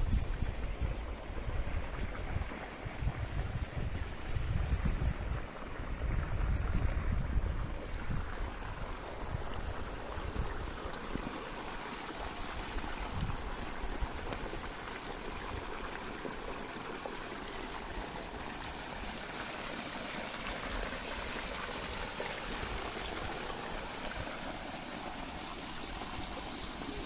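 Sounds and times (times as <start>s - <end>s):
water running and trickling: 0.0s - 27.0s.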